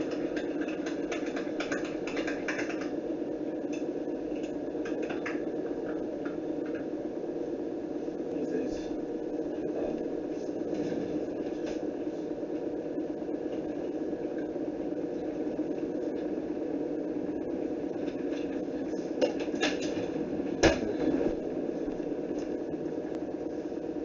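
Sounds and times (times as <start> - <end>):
kettle boiling water: 0.0 - 24.0.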